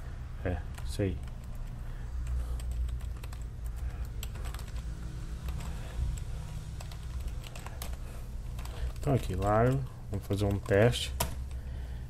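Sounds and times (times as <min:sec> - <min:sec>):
steady low hum: 0:00.0 - 0:12.0
keyboard typing clicks: 0:00.7 - 0:04.8, 0:05.4 - 0:11.6.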